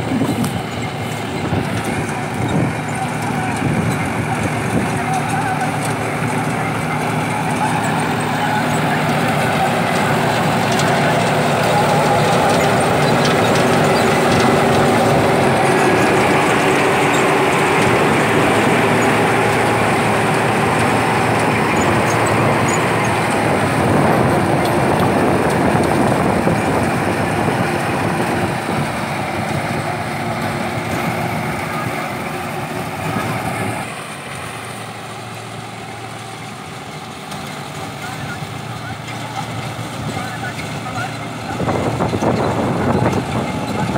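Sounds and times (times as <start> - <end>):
tractor engine and straw reaper din: 0.0 - 43.9.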